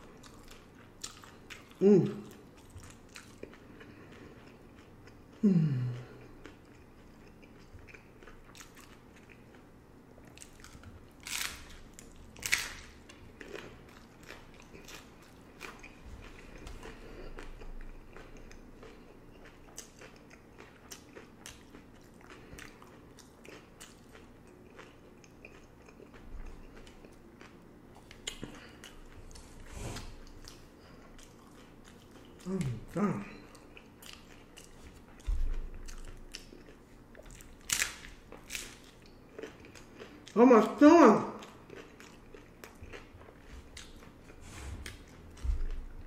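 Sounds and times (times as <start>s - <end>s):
crunching and chewing tacos: 0.0s - 46.0s.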